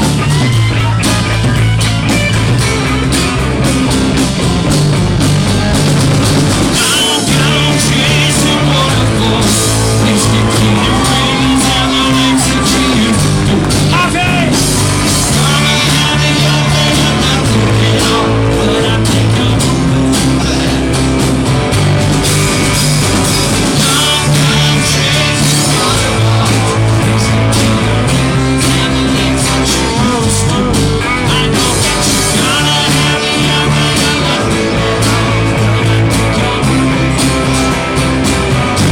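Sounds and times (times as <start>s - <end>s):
bending guitar notes: 0.0s - 38.9s
live rock band playing: 0.0s - 38.9s.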